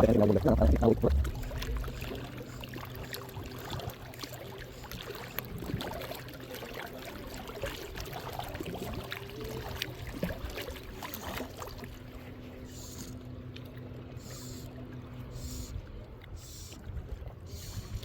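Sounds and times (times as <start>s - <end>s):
faint low hum: 0.0s - 18.0s
water lapping and trickling: 0.0s - 18.0s.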